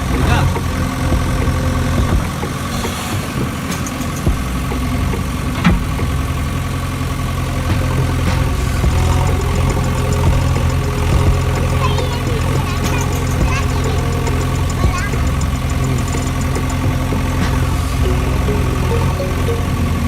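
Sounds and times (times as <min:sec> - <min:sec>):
motor engine idling: 0:00.0 - 0:20.0.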